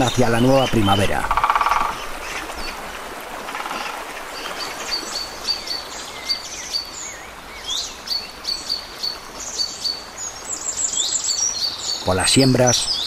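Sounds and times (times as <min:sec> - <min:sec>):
small birds singing: 0:00.0 - 0:02.8, 0:03.8 - 0:13.0
steady outdoor hiss: 0:00.0 - 0:13.0.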